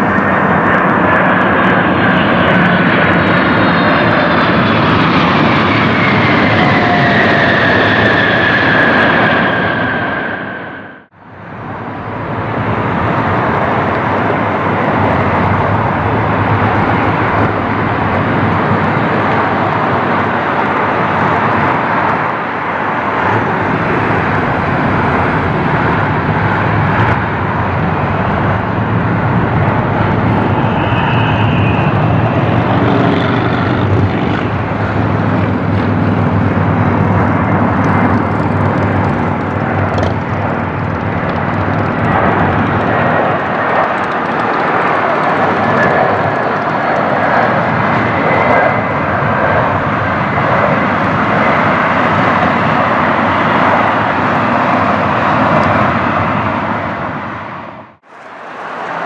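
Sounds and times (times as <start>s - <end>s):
jet engines running loudly: 0.0s - 59.0s.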